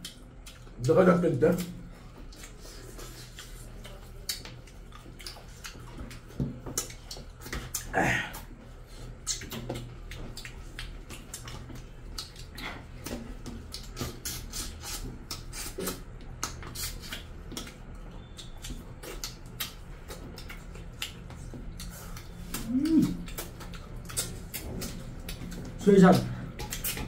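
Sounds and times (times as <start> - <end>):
wet chewing and lip-smacking: 0.0 - 0.9, 1.5 - 27.0
low steady hum: 0.0 - 27.0.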